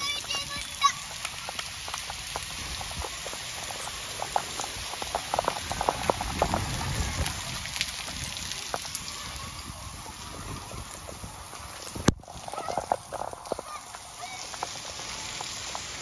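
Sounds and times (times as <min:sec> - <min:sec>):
close drips and splashes: 0:00.0 - 0:16.0
heavy rain hissing: 0:00.0 - 0:16.0.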